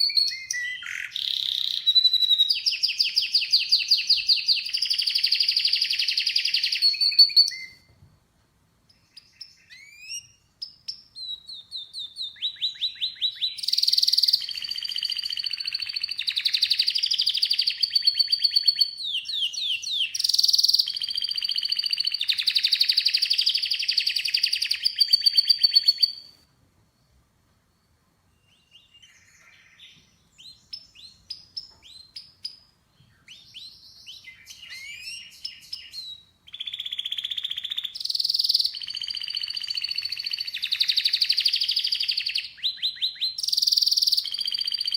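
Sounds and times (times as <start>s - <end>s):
canary singing trills: 0.0s - 7.9s, 8.9s - 26.4s, 28.4s - 44.9s.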